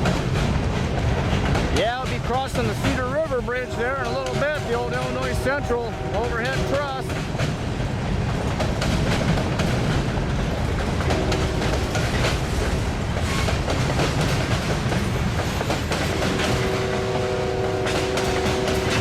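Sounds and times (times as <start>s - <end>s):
train rumble: 0.0s - 19.0s
train wheels clicking on rail joints: 0.0s - 19.0s.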